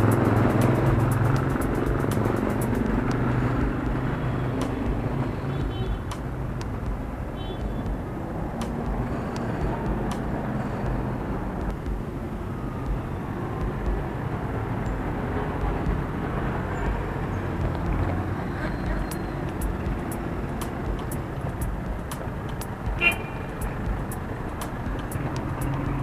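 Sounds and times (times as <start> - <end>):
motor vehicles rumbling: 0.0 - 26.0.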